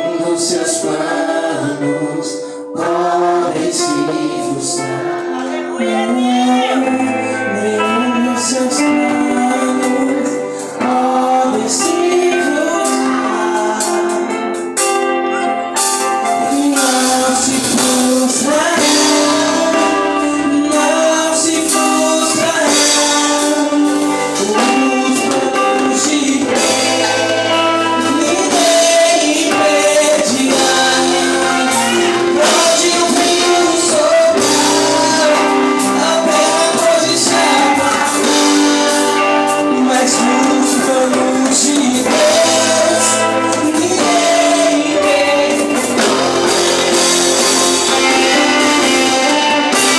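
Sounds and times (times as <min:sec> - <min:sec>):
voices singing: 0:00.0 - 0:15.0, 0:15.9 - 0:49.9
live band playing: 0:00.0 - 0:49.9.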